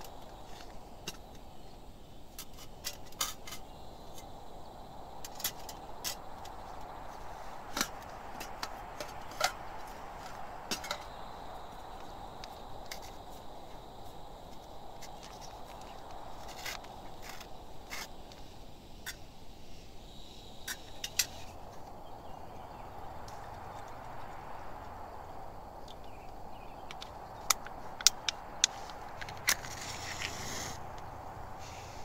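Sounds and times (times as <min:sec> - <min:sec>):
steady background noise: 0:00.0 - 0:32.0.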